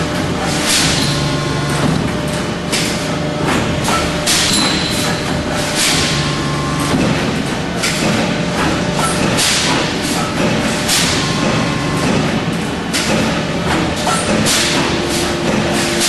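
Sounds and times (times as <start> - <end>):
heavy machine thumps: 0.0 - 16.0
machine humming: 0.0 - 16.0.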